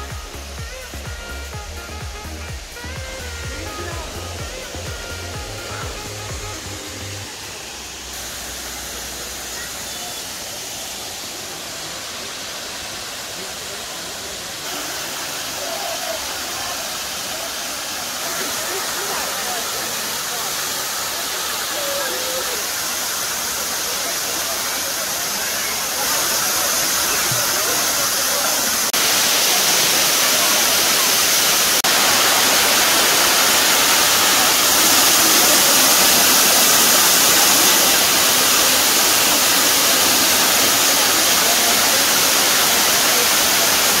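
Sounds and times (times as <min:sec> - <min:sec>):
waterfall rushing and splashing: 0:00.0 - 0:44.0.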